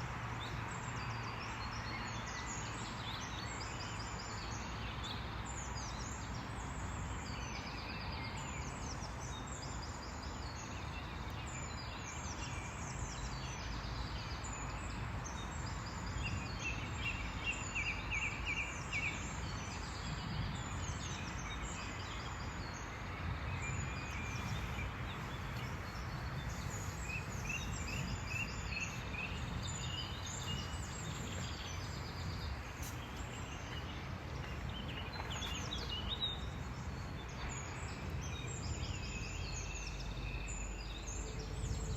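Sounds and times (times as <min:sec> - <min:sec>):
small birds singing: 0:00.0 - 0:41.9.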